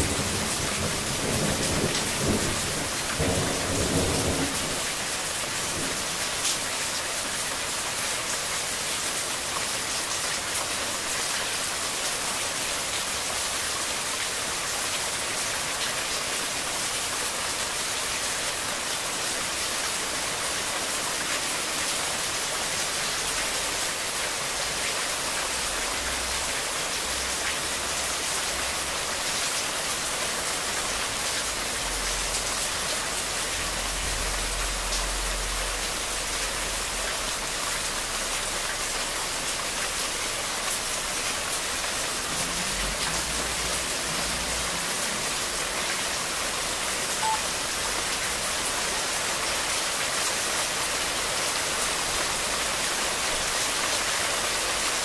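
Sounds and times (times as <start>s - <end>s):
rain falling on foliage: 0.0s - 55.0s.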